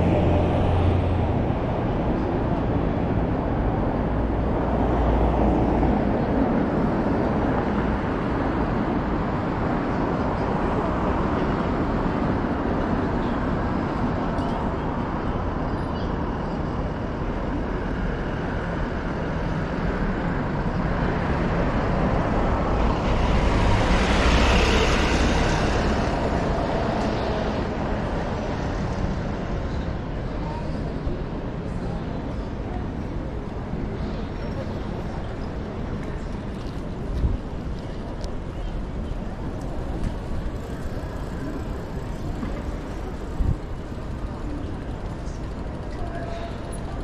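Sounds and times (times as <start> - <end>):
city street traffic: 0.0 - 47.0.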